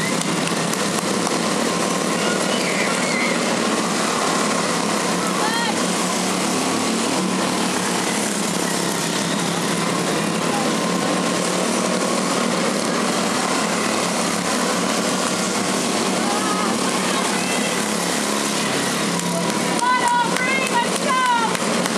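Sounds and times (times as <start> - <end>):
small race car engines buzzing: 0.0 - 21.9.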